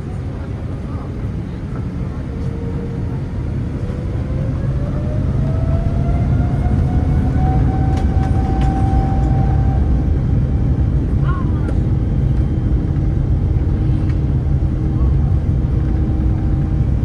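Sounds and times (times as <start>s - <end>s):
heavy engine rumble: 0.0s - 17.0s
jet engine whine: 0.0s - 17.0s.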